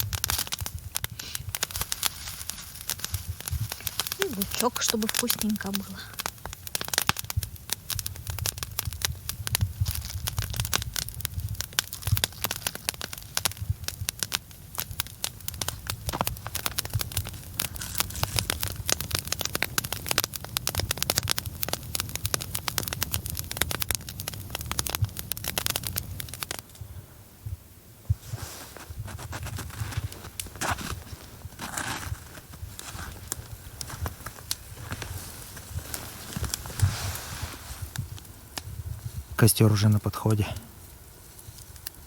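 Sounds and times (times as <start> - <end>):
campfire crackling and popping: 0.0 - 42.0
low fire rumble: 0.0 - 42.0.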